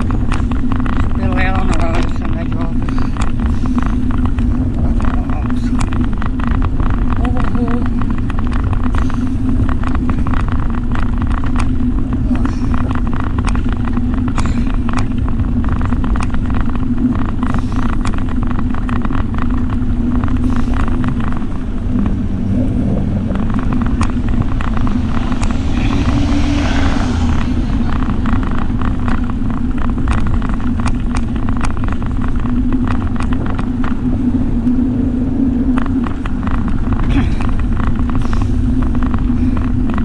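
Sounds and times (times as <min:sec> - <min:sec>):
constant hum: 0:00.0 - 0:40.0
wind and road rumble: 0:00.0 - 0:40.0.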